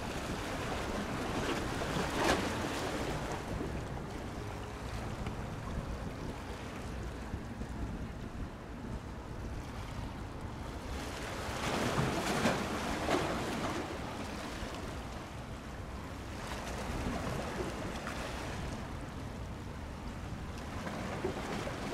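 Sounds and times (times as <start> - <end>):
sea waves splashing: 0.0 - 21.9
wind rumble on microphone: 0.0 - 21.9.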